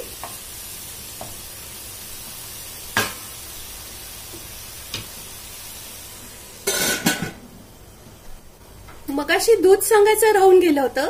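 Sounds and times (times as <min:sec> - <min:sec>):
beetroot sizzling in oil: 0:00.0 - 0:11.0.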